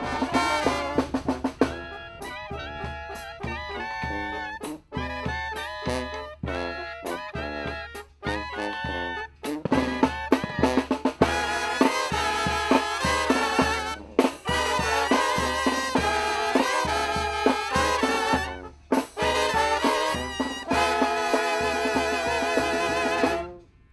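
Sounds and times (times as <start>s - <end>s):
brass band playing: 0.0s - 23.8s.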